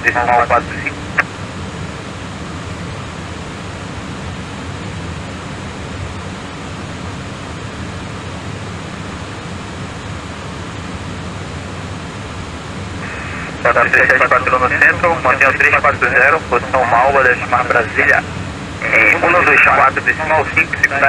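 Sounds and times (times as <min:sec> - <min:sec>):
airliner cockpit engine noise: 0:00.0 - 0:21.0
low hum: 0:00.0 - 0:21.0.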